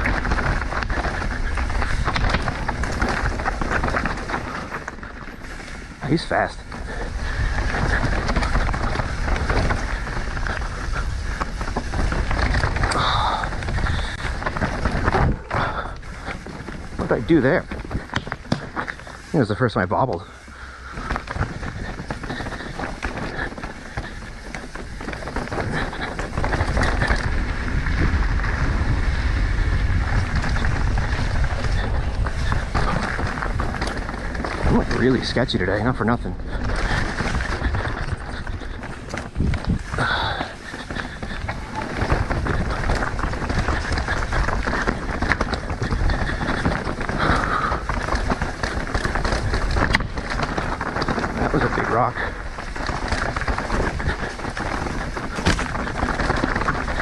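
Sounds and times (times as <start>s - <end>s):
bike clattering: 0.0s - 57.0s
bike tyres crunching over rock: 0.0s - 57.0s
wind rushing over microphone: 0.0s - 57.0s.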